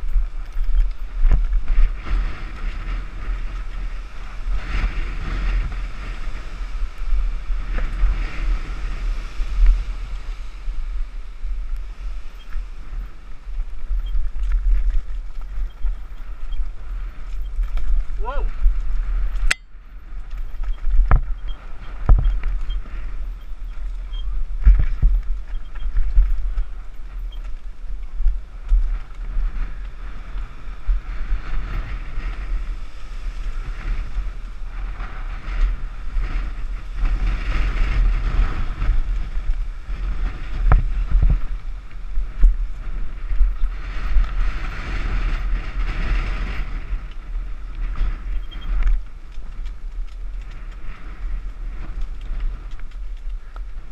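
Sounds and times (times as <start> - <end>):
bike rattling and knocking: 0.0 - 6.1, 13.7 - 32.5, 35.4 - 53.9
wind buffeting microphone: 0.0 - 53.9.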